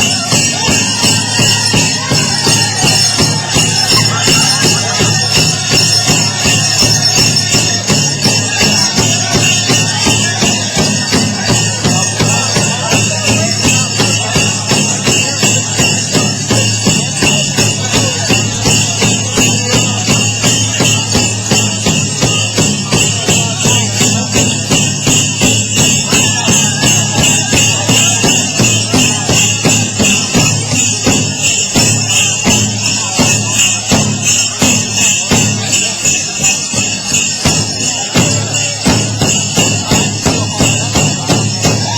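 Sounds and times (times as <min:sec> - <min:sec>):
drum beating steadily: 0:00.0 - 0:41.9
metal jingles shaking: 0:00.0 - 0:41.9.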